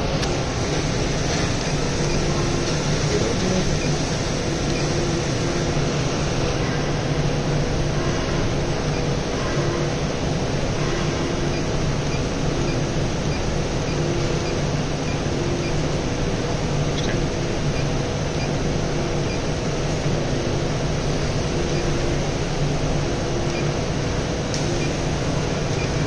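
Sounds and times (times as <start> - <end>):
fan running: 0.0 - 26.0.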